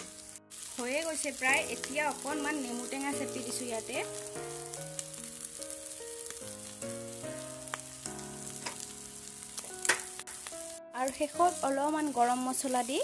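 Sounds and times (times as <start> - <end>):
background music: 0.0 - 13.0
meat sizzling in a pan: 0.0 - 13.0.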